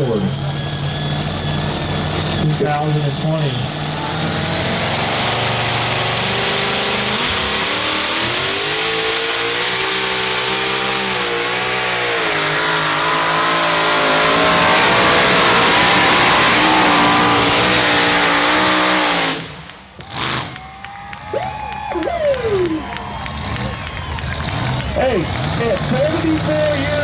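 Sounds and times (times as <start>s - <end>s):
truck engine at full throttle: 0.0s - 27.0s.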